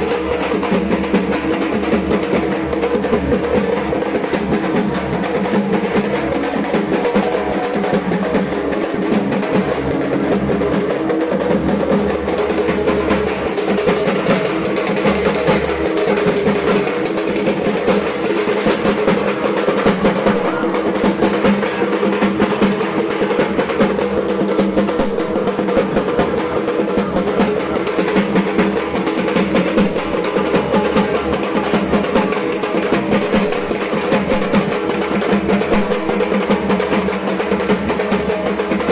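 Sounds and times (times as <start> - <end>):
barrel drum fast roll: 0.0 - 38.9.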